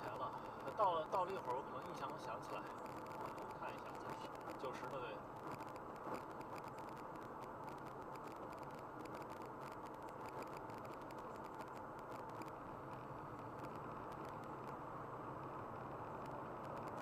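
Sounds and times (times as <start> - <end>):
road and tyre noise inside car: 0.0 - 17.0.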